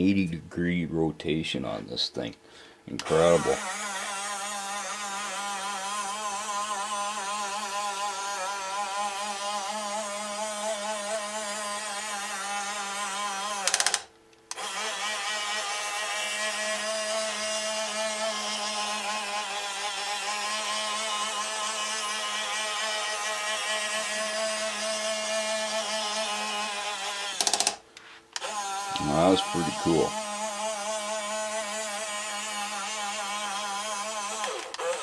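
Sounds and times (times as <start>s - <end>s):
electric motor whine: 3.0s - 27.8s, 28.4s - 35.0s.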